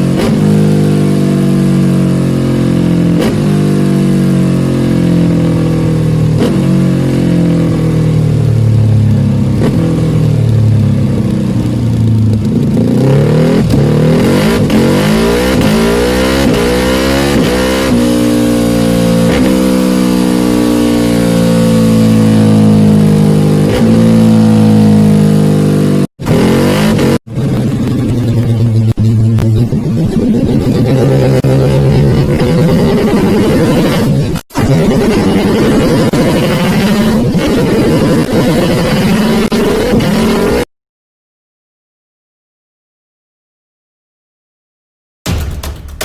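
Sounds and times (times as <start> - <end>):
motorcycle engine revving: 0.0 - 40.7.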